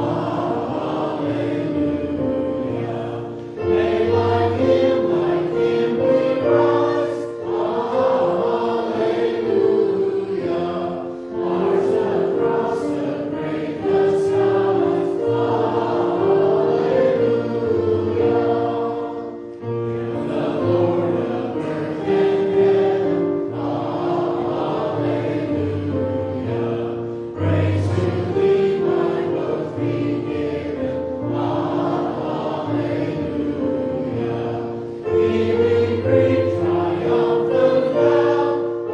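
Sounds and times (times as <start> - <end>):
choir singing: 0.0 - 38.9
held accompanying notes: 0.0 - 38.9.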